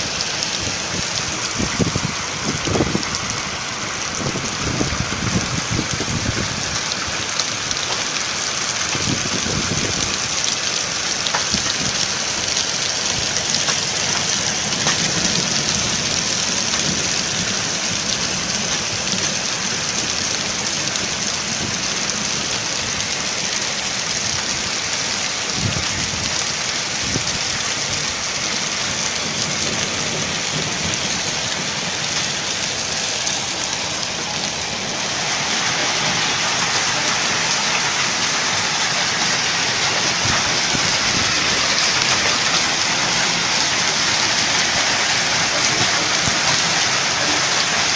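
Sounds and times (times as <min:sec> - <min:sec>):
hailstones ticking: 0:00.0 - 0:47.9
heavy rain hissing: 0:00.0 - 0:47.9.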